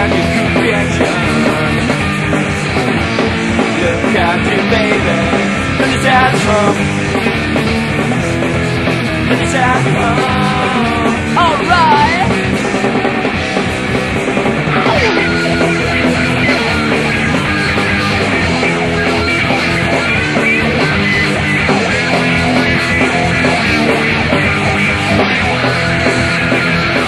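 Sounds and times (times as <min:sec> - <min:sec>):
punk rock band playing: 0:00.0 - 0:27.0.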